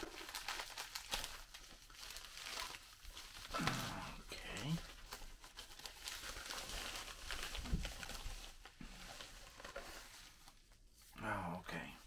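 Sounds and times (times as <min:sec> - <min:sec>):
packaging wrapper crinkling: 0:00.0 - 0:11.0.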